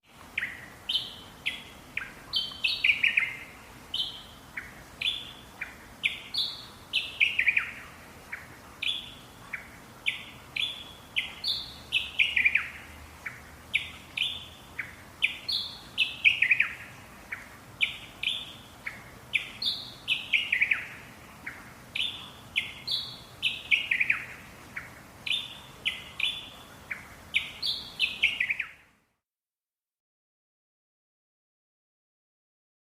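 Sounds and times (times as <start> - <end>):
bird singing: 0.3 - 28.9.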